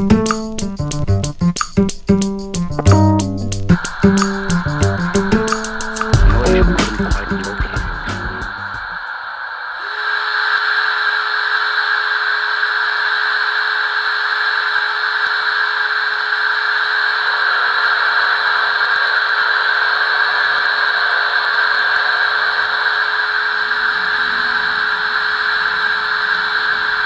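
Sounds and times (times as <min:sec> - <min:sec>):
constant whine: 0:00.0 - 0:27.0
steam hiss: 0:03.7 - 0:27.0.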